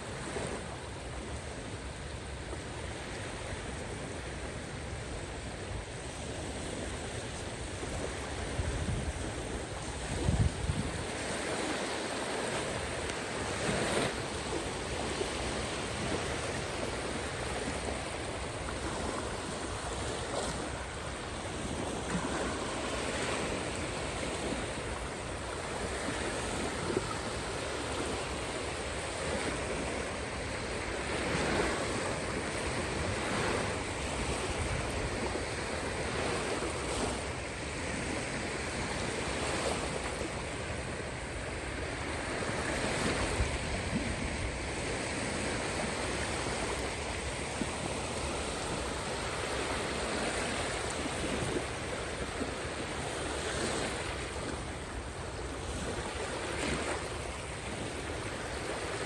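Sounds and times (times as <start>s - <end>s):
sea waves washing: 0.0s - 59.0s.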